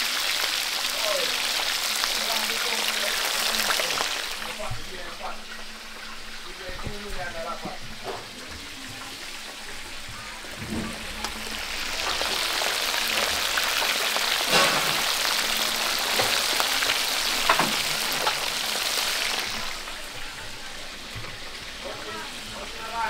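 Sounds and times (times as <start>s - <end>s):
food frying in hot oil: 0.0s - 23.0s.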